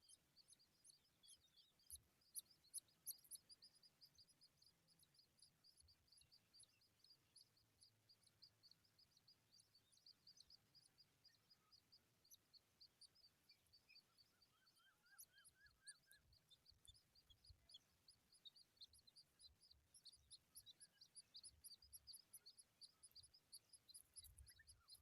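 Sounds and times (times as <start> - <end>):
lower rising bird chirps: 0.0 - 25.0
rapid high-pitched bird chirping: 0.0 - 25.0.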